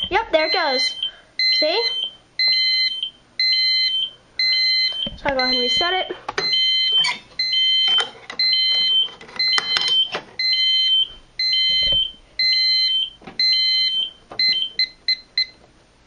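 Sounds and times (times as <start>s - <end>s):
fire alarm sounder beeping: 0.0s - 15.6s.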